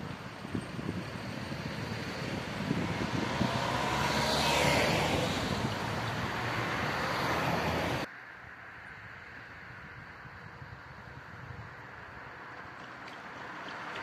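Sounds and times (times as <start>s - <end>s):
vehicles driving past: 0.0s - 14.0s.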